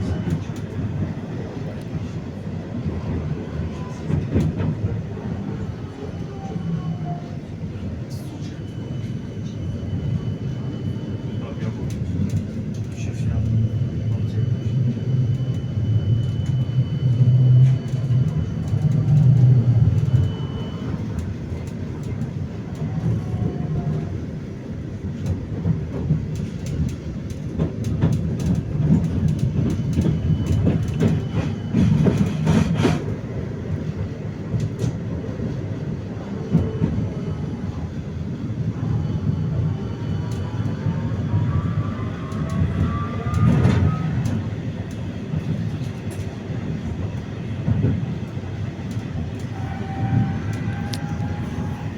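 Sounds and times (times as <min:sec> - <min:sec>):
tram wheels rumbling on rails: 0:00.0 - 0:51.9.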